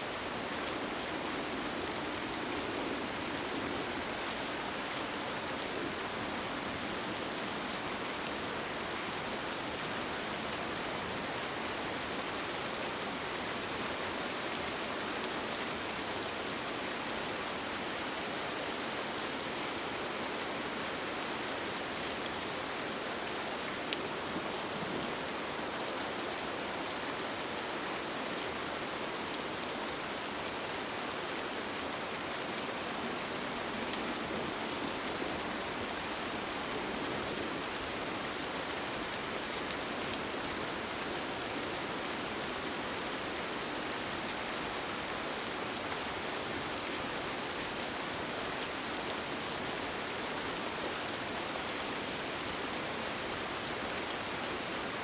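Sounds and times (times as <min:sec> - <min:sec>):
rain on a tent: 0:00.0 - 0:55.0.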